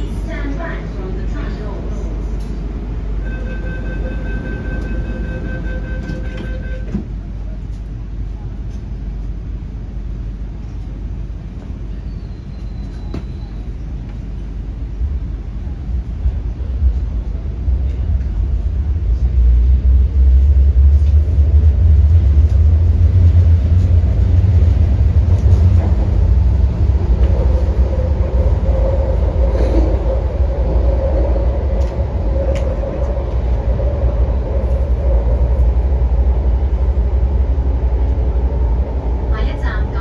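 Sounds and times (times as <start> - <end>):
train interior rumble: 0.0 - 40.0.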